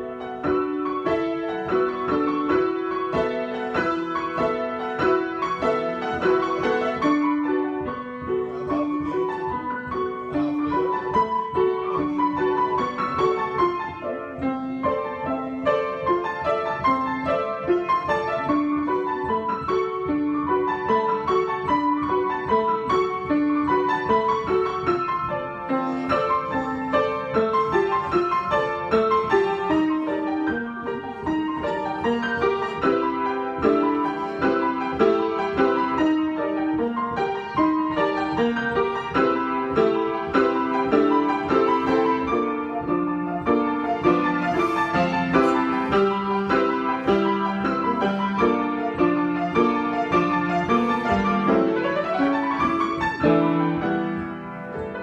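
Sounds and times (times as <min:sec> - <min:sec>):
solo piano improvisation: 0:00.0 - 0:55.0.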